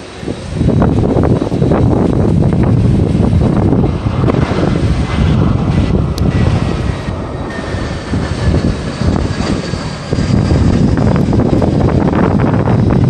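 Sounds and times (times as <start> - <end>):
jet engines whining: 0.0 - 13.0
wind buffeting on microphone: 0.0 - 13.0.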